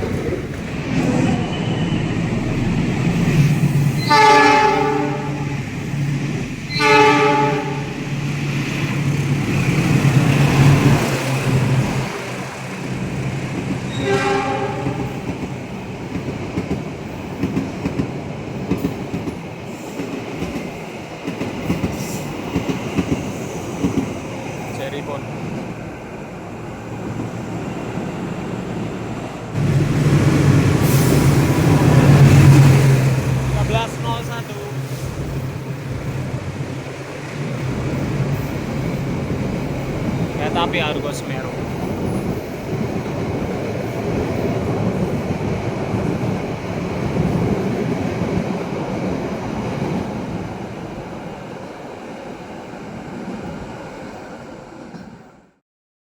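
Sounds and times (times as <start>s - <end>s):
diesel locomotive engine drone: 0.0s - 55.4s
rolling rail noise: 0.0s - 55.4s.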